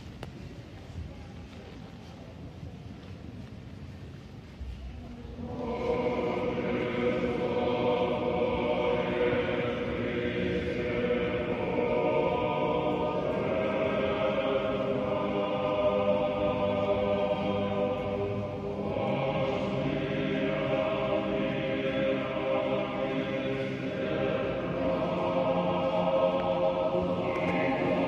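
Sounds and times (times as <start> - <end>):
choir singing unaccompanied: 5.3 - 28.0.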